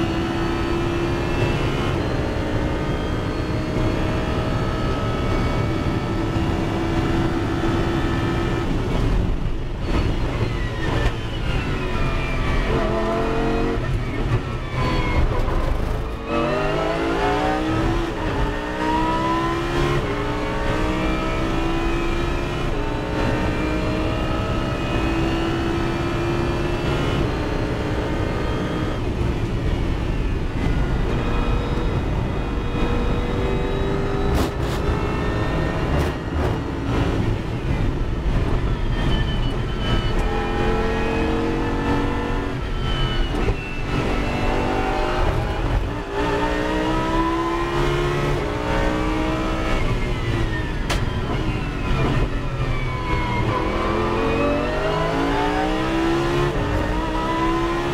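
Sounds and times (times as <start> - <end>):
race car engine: 0.0 - 57.9.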